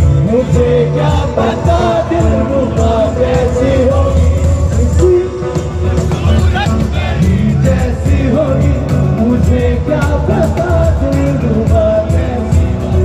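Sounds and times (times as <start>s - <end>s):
backing music with steady beat: 0.0s - 13.0s
man singing into a microphone: 0.0s - 13.0s.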